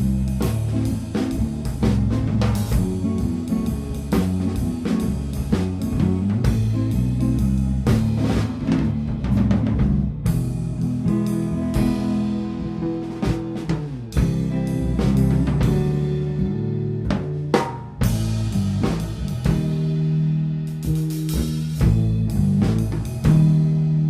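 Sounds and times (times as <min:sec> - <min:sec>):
bass guitar: 0:00.0 - 0:24.0
drum kit beat: 0:00.0 - 0:24.0
electric guitar: 0:00.0 - 0:24.0.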